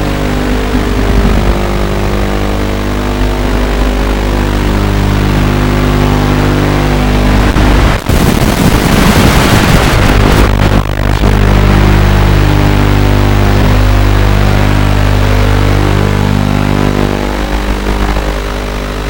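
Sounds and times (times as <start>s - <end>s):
harsh static hiss: 0.0s - 19.0s
quadcopter buzzing: 0.0s - 19.0s.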